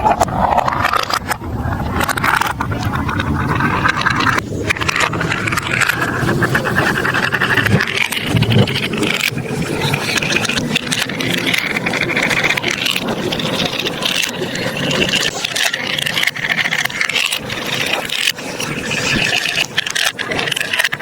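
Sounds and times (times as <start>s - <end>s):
marbles rattling down plastic tracks: 0.0s - 21.0s.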